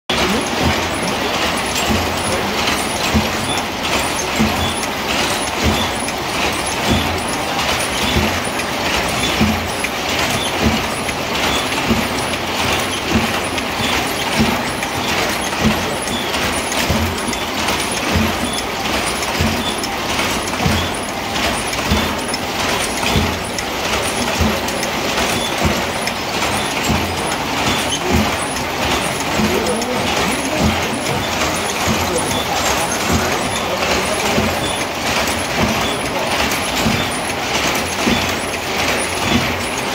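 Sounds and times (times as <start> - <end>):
heavy loom knock: 0.1 - 39.9
looms clattering: 0.1 - 39.9.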